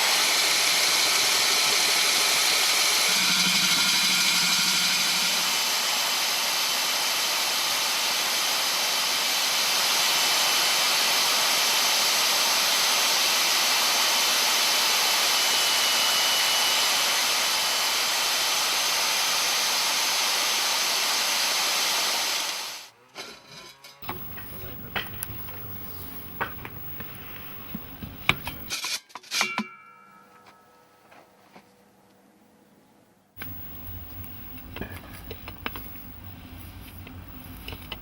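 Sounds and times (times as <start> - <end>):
core drill hissing drone: 0.0 - 22.9, 24.0 - 28.7, 33.4 - 38.0.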